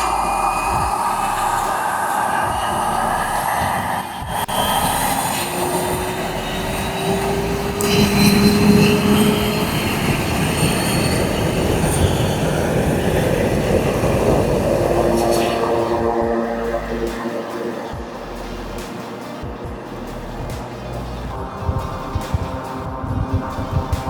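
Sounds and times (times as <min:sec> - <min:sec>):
turbine engine rushing: 0:00.0 - 0:24.0.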